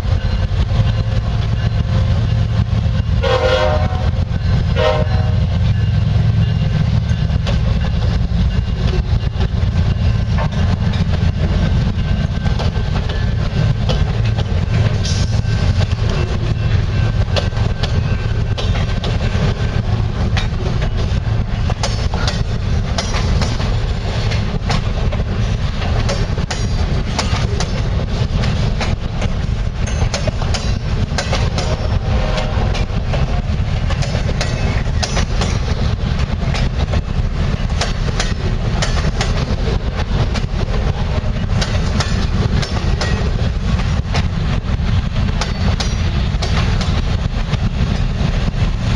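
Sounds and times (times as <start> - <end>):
heavy locomotive engine rumble: 0.0 - 48.9
wheels clicking on rails: 0.0 - 48.9.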